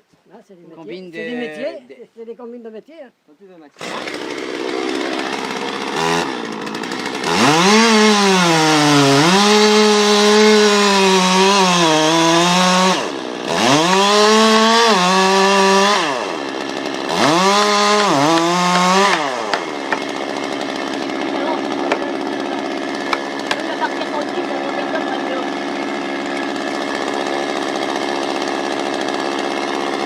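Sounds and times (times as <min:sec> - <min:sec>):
chainsaw cutting a tree: 0:03.8 - 0:30.0.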